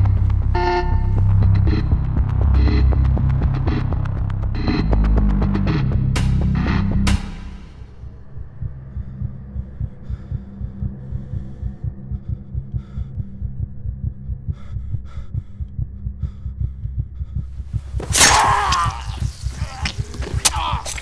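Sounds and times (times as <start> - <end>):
low throbbing drone with pulse: 0.0 - 18.0.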